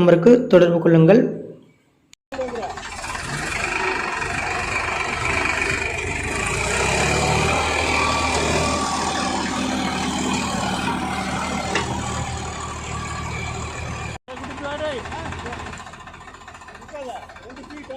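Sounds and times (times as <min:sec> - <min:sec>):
tractor diesel engine running: 0:02.3 - 0:17.9.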